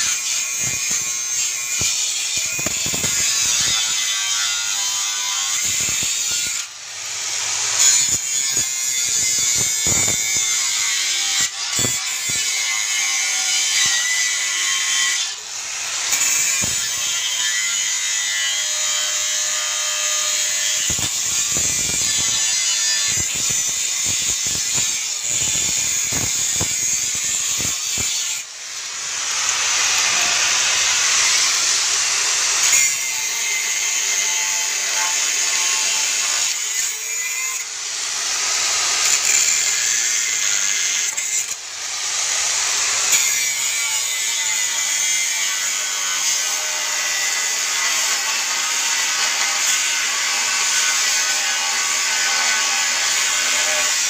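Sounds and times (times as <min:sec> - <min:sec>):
angle grinder cutting steel: 0:00.0 - 0:54.0.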